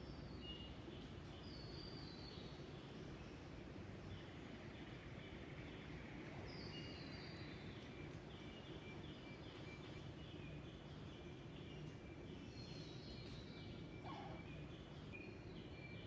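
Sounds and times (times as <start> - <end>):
birds calling faintly: 0.0 - 16.0.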